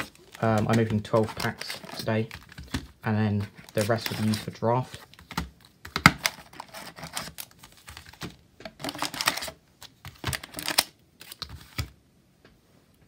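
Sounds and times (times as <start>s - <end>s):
wrapper rustles: 0.0s - 11.8s.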